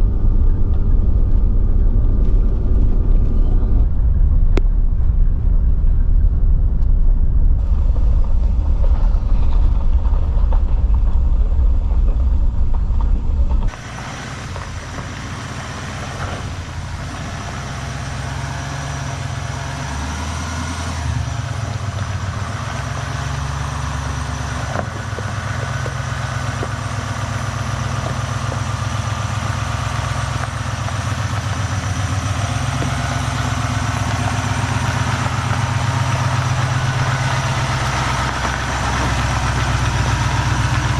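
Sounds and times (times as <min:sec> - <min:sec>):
heavy low rumble: 0:00.0 - 0:40.9
vehicle engine hum: 0:00.0 - 0:40.9.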